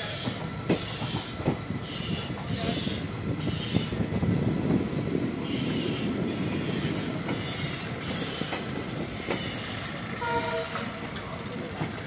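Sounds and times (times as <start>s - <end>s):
train wheels rolling on track: 0.0s - 12.0s.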